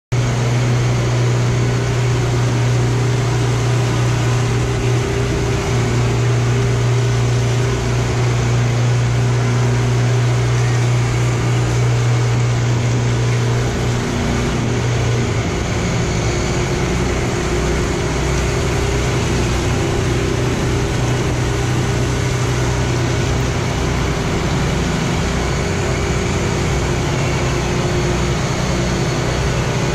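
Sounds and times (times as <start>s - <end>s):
power trowel engine running: 0.1s - 29.9s.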